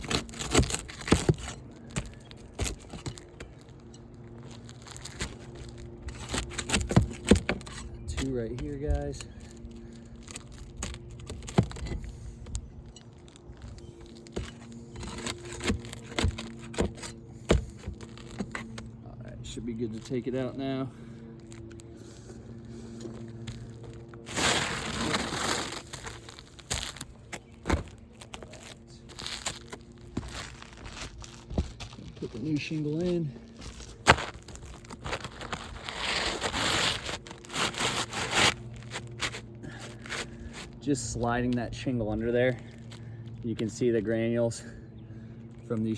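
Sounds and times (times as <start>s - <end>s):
shingle scraping on shingle: 0.0s - 41.3s.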